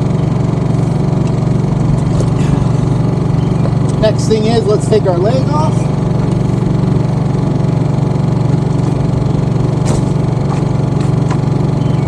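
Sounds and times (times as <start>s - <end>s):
portable generator running: 0.0s - 12.0s.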